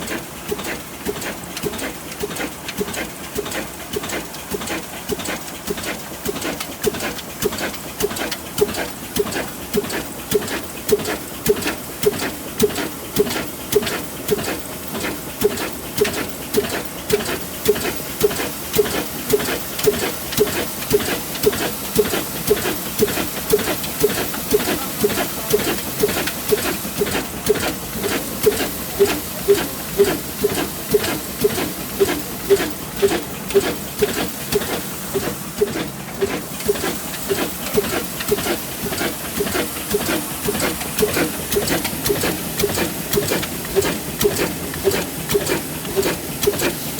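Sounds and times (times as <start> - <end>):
old engine puffing with hiss: 0.0 - 46.9.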